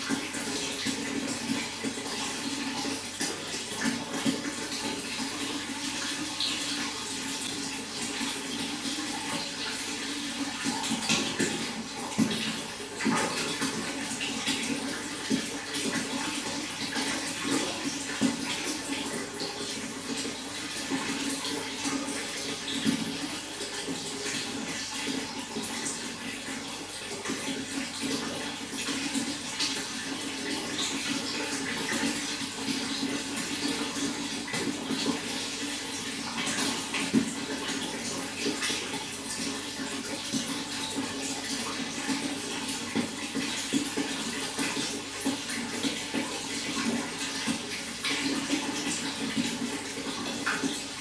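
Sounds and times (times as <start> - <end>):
running water rushing: 0.0 - 51.0.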